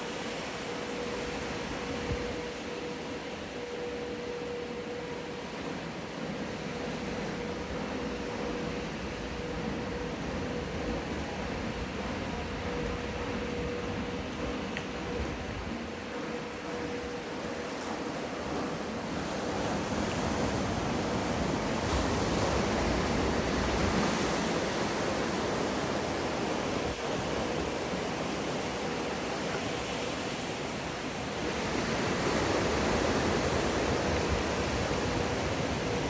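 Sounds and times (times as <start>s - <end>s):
faint steady hum: 0.0s - 36.0s
waves breaking and water rushing: 0.0s - 36.0s.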